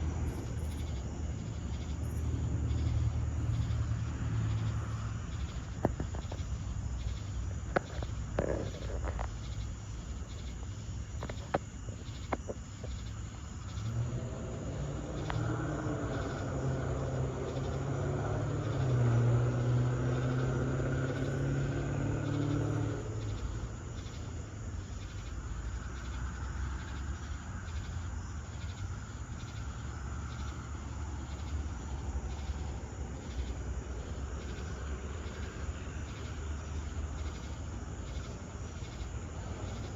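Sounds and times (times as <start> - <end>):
crickets chirping: 0.0 - 39.9
passing vehicle engine hum: 0.0 - 39.9.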